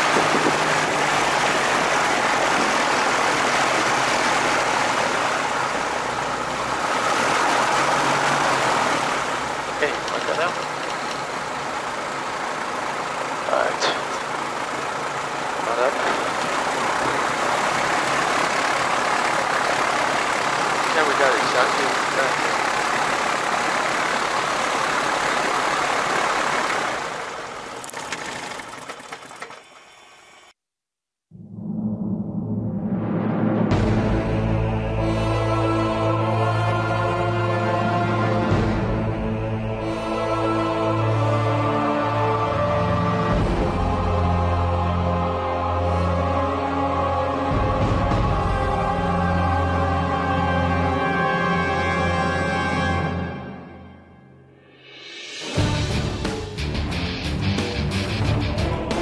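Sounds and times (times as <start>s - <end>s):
aircraft engine and propeller: 0.0s - 30.5s, 32.4s - 53.8s, 54.9s - 59.0s.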